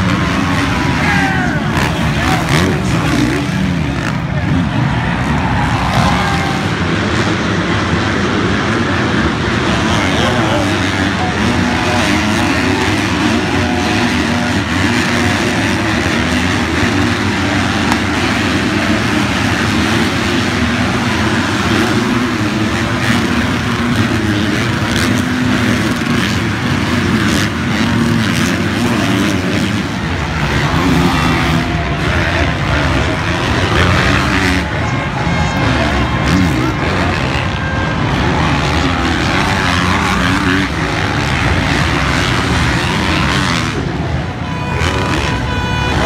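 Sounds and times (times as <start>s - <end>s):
motocross engines revving: 0.0s - 46.0s.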